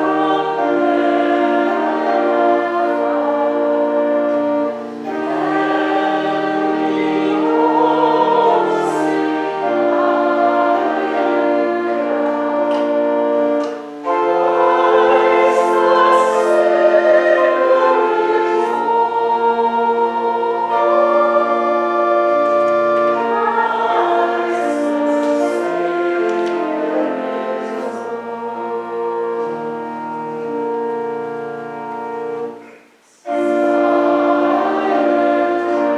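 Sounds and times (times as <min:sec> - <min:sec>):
choir and congregation singing a hymn: 0:00.0 - 0:35.9
organ accompaniment: 0:00.0 - 0:35.9.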